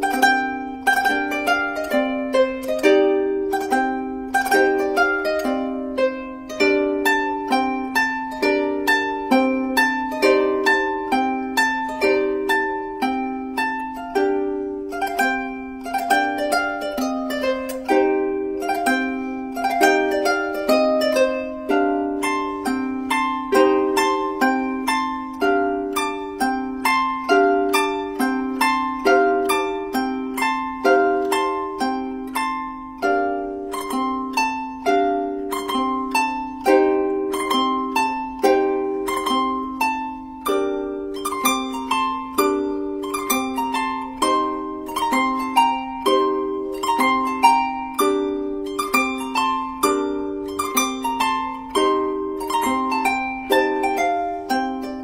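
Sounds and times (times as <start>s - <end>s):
solo harp music: 0.0s - 55.0s.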